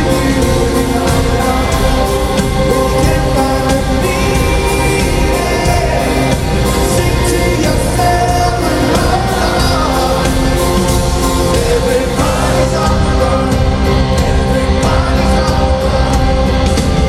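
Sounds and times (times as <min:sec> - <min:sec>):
choir-like singing: 0:00.0 - 0:17.0
rock band playing: 0:00.0 - 0:17.0.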